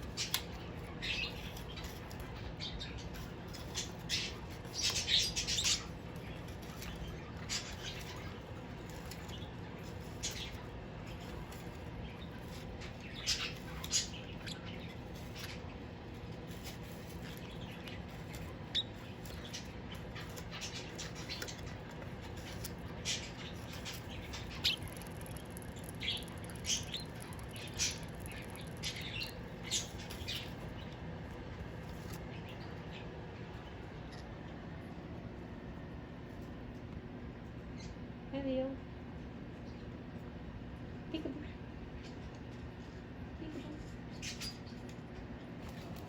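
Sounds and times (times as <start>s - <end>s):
pet birds chirping and squawking: 0.0s - 34.8s, 37.6s - 38.1s, 43.8s - 46.0s
steady low hum: 0.0s - 46.0s.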